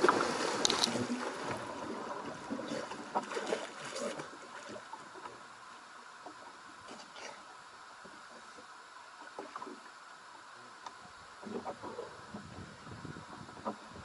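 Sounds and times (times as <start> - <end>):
water sloshing against hull: 0.0 - 14.0.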